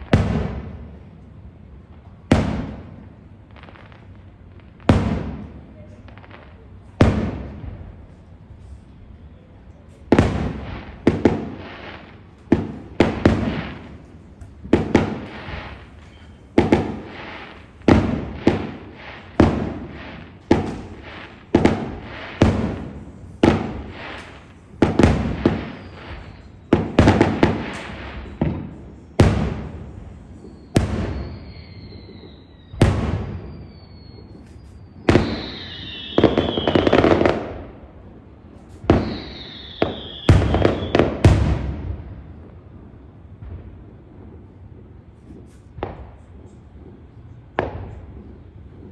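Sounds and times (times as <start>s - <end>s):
crackling firework burst: 0.0s - 48.9s
fireworks bangs: 0.0s - 48.9s
falling firework whistles: 4.8s - 48.9s.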